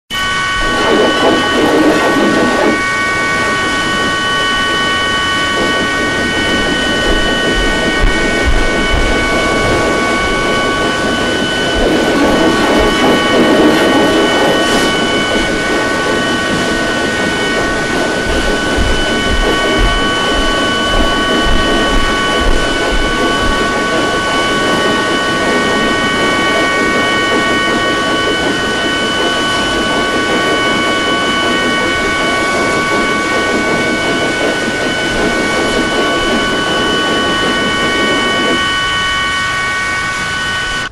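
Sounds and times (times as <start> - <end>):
harsh noisy wash: 0.1 - 40.9
held high tone chord: 0.1 - 40.9.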